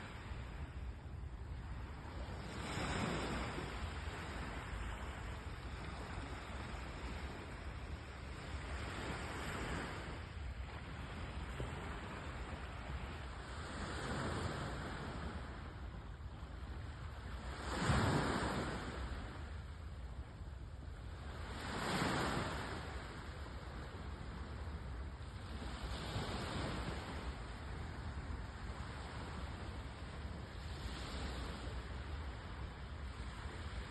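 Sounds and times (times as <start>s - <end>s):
waves breaking: 0.0s - 15.8s, 17.0s - 19.8s, 21.2s - 33.9s.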